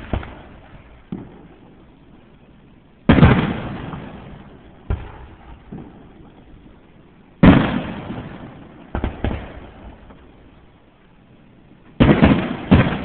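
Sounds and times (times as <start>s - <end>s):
fireworks bangs: 0.0s - 10.8s, 11.8s - 13.0s.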